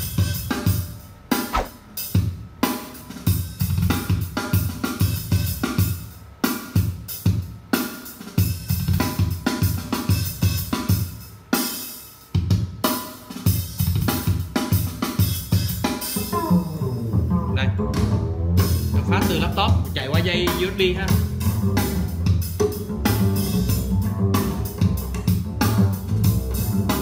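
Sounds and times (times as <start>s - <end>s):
drum-driven music with heavy bass: 0.0s - 27.0s.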